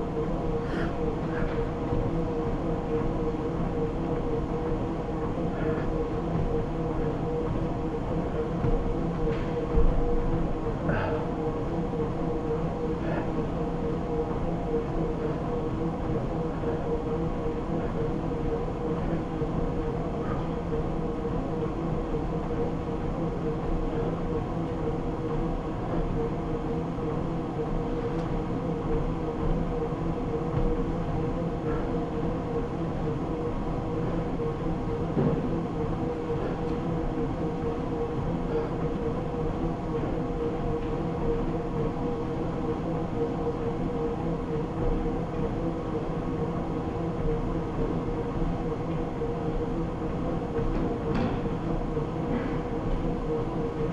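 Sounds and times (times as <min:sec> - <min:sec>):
treadmill belt moving: 0:00.0 - 0:53.9
treadmill motor hum: 0:00.0 - 0:53.9.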